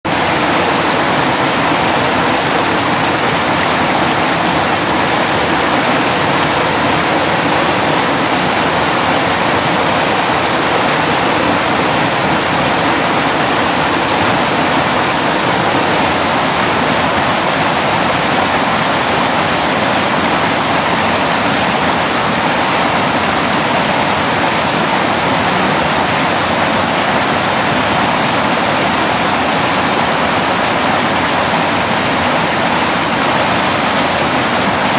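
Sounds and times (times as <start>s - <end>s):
creek rushing over boulders: 0.1s - 34.9s.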